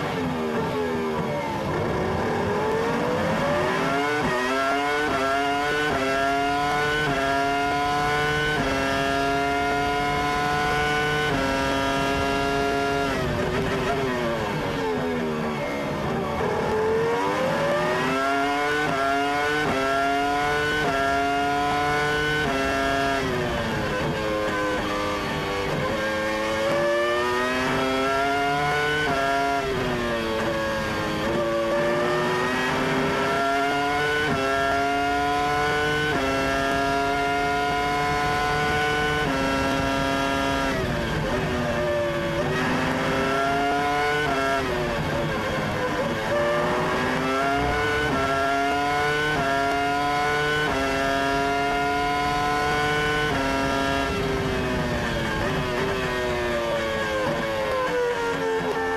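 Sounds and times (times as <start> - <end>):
racing car engine shifting gears: 0.0 - 58.9.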